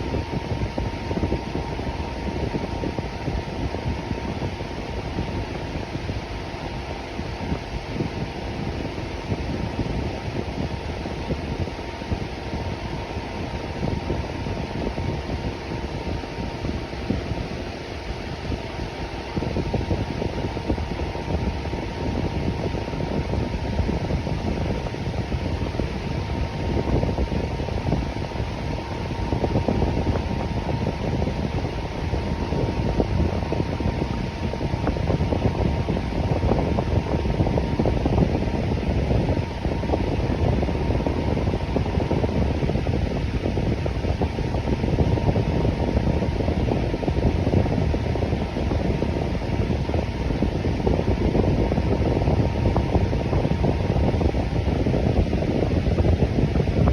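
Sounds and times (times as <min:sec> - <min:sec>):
electric fan running: 0:00.0 - 0:56.9
faint steady hum: 0:00.0 - 0:56.9.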